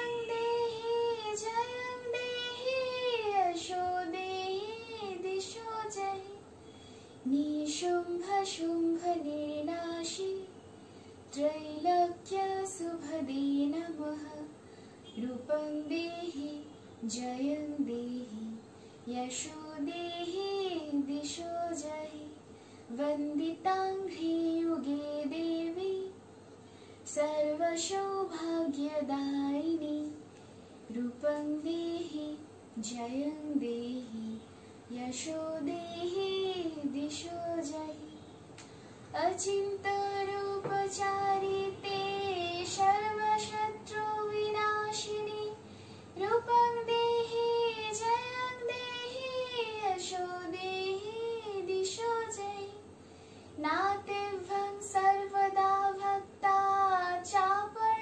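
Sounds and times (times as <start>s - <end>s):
woman singing: 0.0s - 6.4s, 7.2s - 10.6s, 11.3s - 26.2s, 27.0s - 30.2s, 30.9s - 38.2s, 39.1s - 52.9s, 53.6s - 58.0s.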